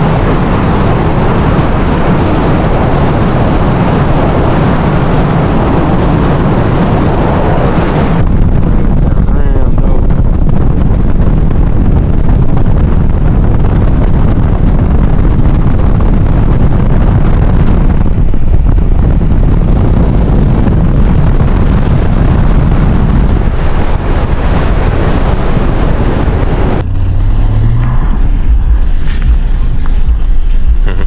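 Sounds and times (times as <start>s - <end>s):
pickup truck engine and tyre noise: 0.0s - 31.0s
wind buffeting microphone: 0.0s - 31.0s.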